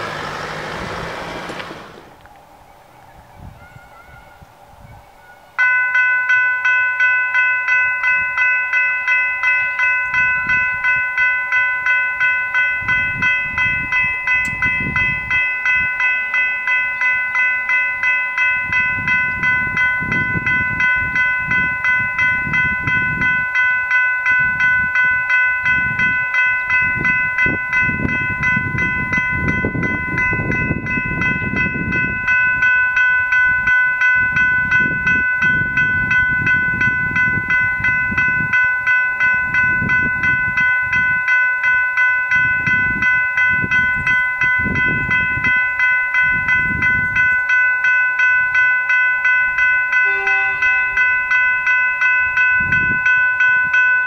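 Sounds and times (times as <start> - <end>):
level crossing bells ringing: 0.0 - 2.1, 5.5 - 54.0.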